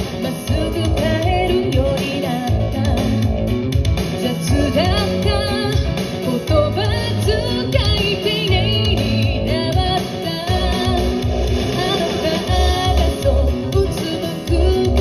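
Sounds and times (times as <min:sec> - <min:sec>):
band music with singing: 0:00.0 - 0:15.0.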